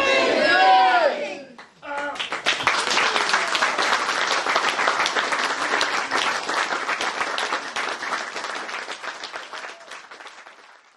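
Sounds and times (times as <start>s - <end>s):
audience applause: 1.9s - 10.9s.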